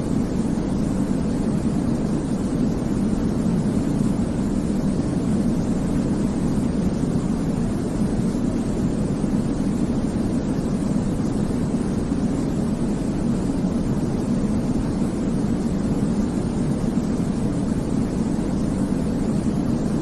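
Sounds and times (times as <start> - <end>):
deep white noise hiss: 0.0 - 20.0.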